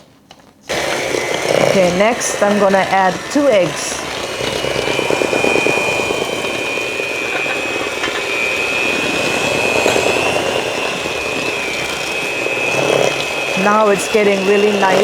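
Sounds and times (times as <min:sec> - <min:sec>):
electric mixer running: 0:00.7 - 0:15.0.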